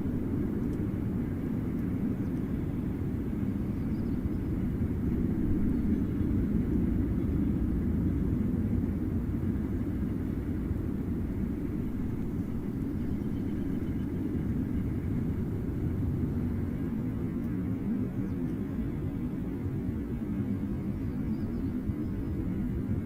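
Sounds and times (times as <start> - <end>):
jet aircraft rumble overhead: 0.0 - 23.0.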